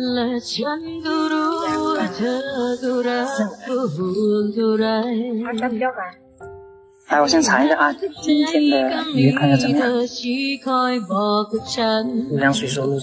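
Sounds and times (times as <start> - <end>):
song with sung melody: 0.0 - 13.0.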